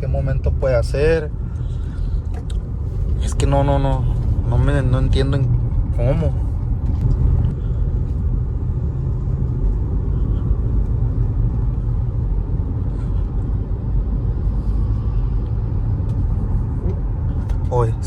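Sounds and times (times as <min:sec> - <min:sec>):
road and drivetrain rumble: 0:00.0 - 0:18.0.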